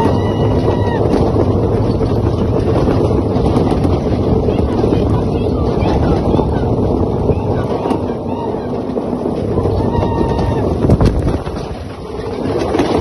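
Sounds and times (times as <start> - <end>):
atv engine running: 0.0 - 13.0
wind buffeting microphone: 0.0 - 13.0.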